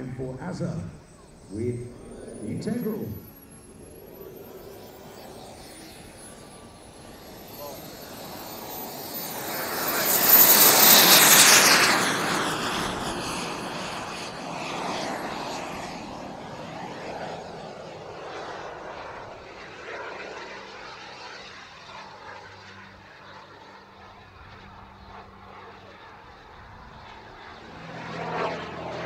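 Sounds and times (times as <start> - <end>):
jet turbine engine whistling: 0.0 - 29.0.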